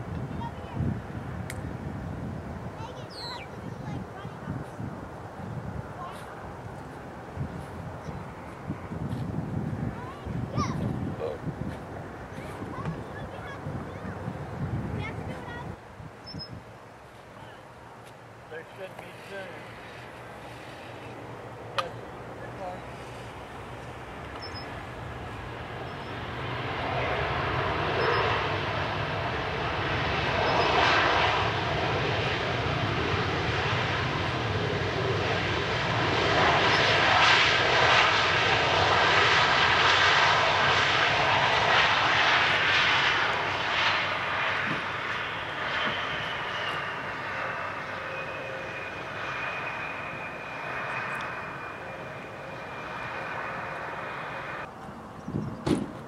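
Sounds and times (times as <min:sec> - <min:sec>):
high engine whine: 0:00.0 - 0:56.0
jet engines roaring: 0:00.0 - 0:56.0.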